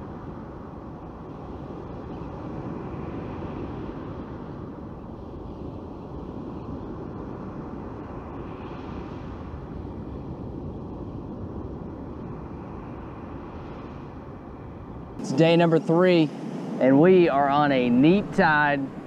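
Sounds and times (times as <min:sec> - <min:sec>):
surf washing up beach: 0:00.0 - 0:19.0.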